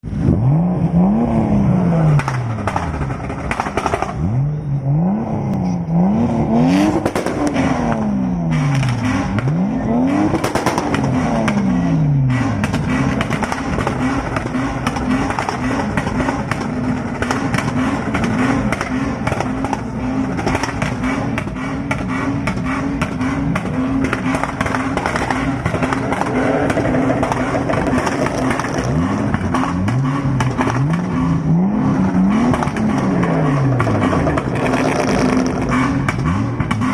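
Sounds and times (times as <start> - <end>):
car engine revving: 0.0 - 36.9
exhaust crackles and pops: 2.0 - 4.4, 6.8 - 36.9.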